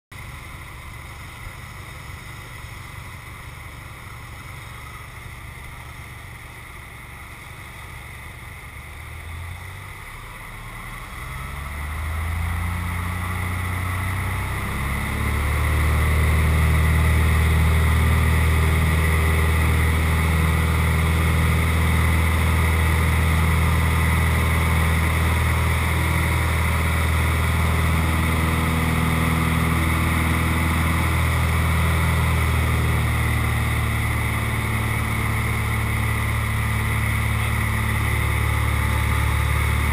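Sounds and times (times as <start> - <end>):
propeller plane engine: 0.1 - 39.9.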